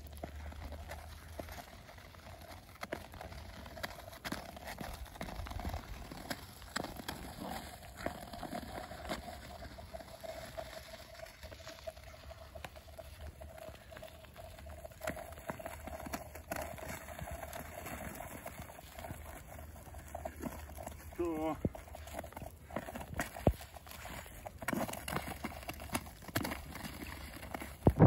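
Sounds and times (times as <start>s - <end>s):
ice skates scraping on ice: 0.0s - 28.0s.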